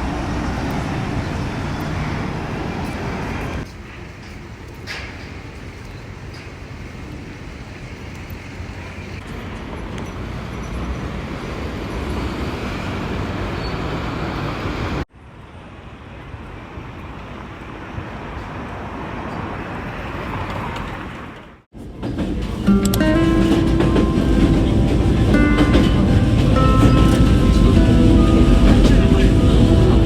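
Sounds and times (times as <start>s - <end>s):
road traffic rumble: 0.0s - 21.7s, 22.4s - 30.0s.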